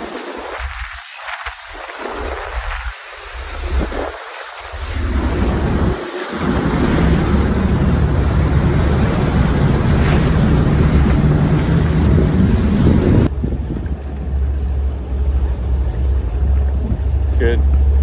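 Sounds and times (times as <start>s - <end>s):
boat engine drone: 0.0s - 18.0s
boat wake churning: 0.0s - 18.0s
wind buffeting microphone: 0.0s - 18.0s.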